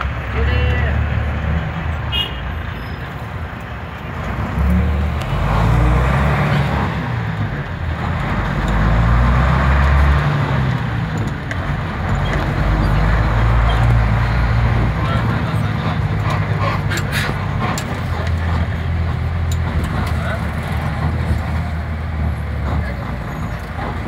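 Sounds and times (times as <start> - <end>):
bus engine running: 0.0 - 24.0
road noise: 0.0 - 24.0.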